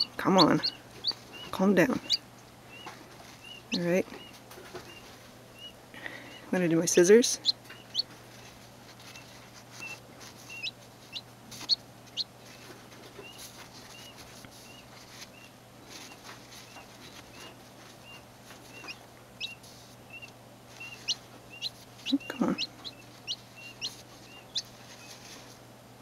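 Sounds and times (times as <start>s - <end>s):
chick peeping: 0.0s - 25.4s.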